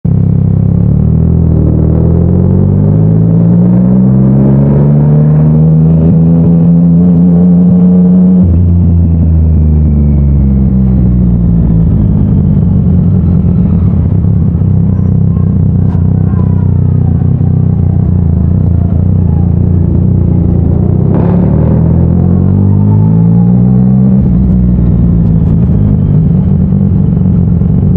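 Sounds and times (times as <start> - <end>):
motorcycle engine revving: 0.1 - 27.9.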